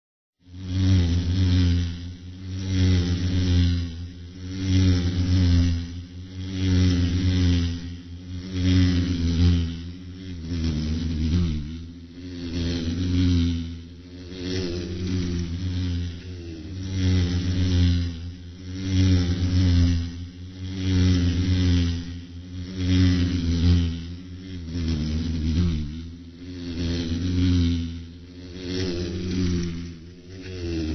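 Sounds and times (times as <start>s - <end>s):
fly buzzing: 0.4s - 30.9s.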